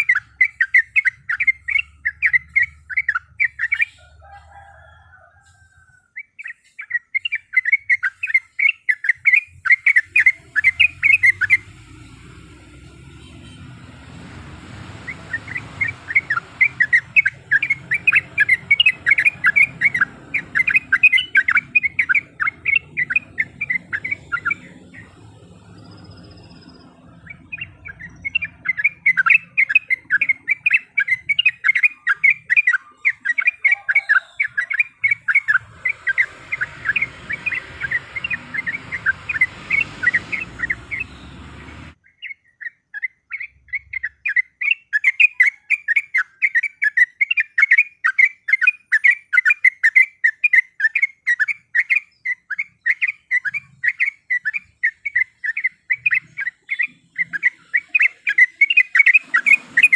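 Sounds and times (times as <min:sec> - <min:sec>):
bulbul singing bubbly chirps: 0:00.0 - 0:04.0, 0:06.2 - 0:13.2, 0:14.8 - 0:59.9.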